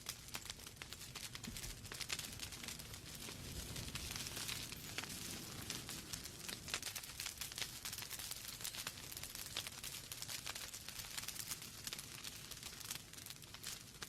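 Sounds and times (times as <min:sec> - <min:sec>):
fire hissing: 0:00.0 - 0:14.0
logs crackling and popping: 0:00.0 - 0:14.0.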